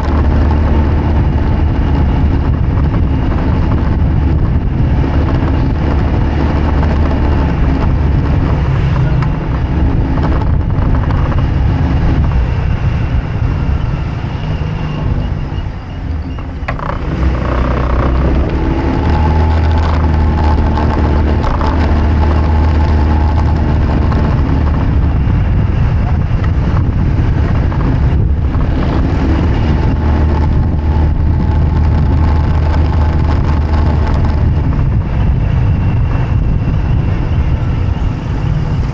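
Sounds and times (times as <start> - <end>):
road noise: 0.0 - 38.9
vehicle engine running: 0.0 - 38.9
wind on microphone: 0.0 - 38.9.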